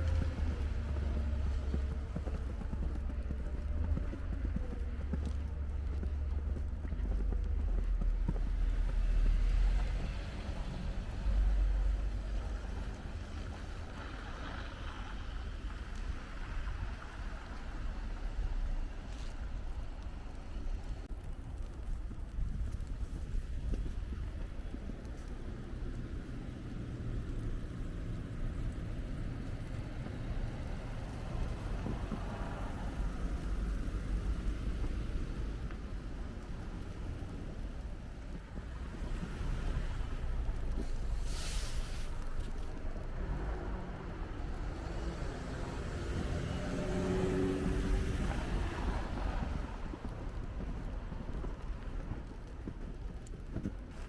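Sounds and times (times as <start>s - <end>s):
street traffic rumble: 0.0s - 54.0s
wind buffeting microphone: 0.0s - 54.0s.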